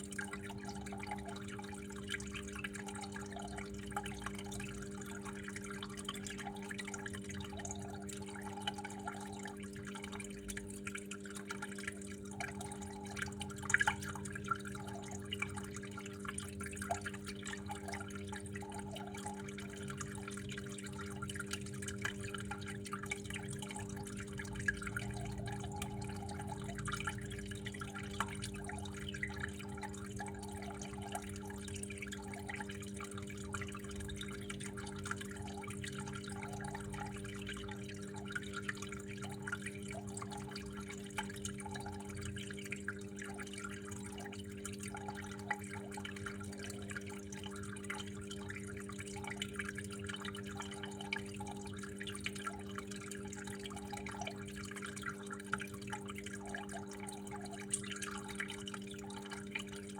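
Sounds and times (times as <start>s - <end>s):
steady low hum: 0.0s - 51.7s
water trickling and dripping: 0.0s - 59.9s.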